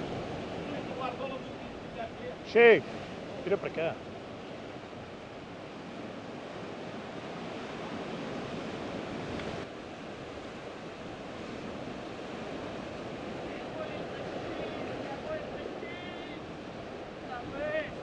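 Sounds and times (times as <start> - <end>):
sea surf on rocky shore: 0.0 - 18.0.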